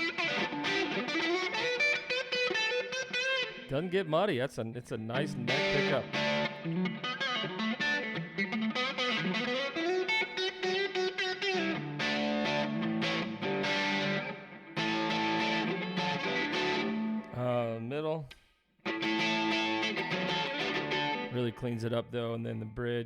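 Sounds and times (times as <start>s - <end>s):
driven electric guitar playing: 0.0s - 4.2s, 5.0s - 17.5s, 18.8s - 21.6s.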